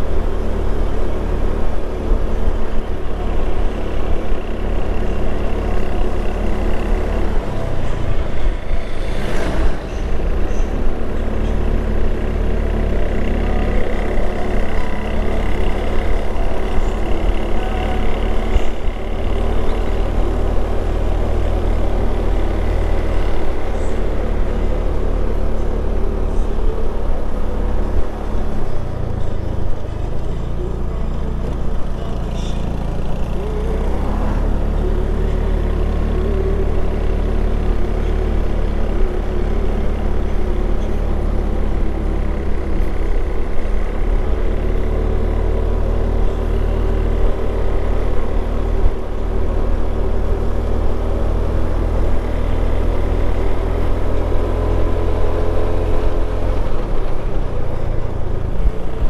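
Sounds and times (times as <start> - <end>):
motorcycle engine running: 0.0 - 59.0
road rumble: 0.0 - 59.0
wind: 0.0 - 59.0.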